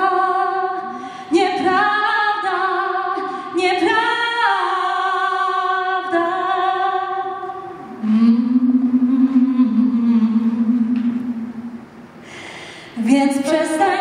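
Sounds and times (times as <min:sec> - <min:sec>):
woman singing into microphone: 0:00.0 - 0:11.6, 0:12.9 - 0:14.0.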